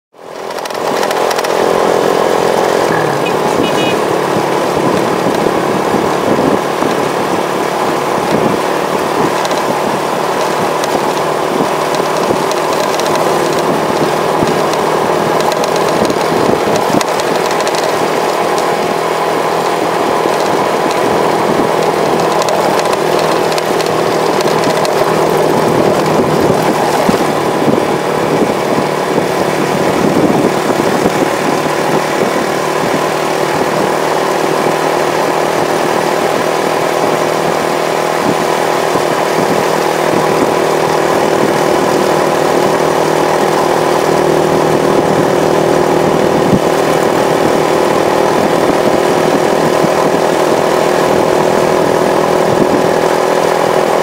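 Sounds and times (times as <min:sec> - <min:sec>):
motorcycle engines droning: 0:00.2 - 0:54.0.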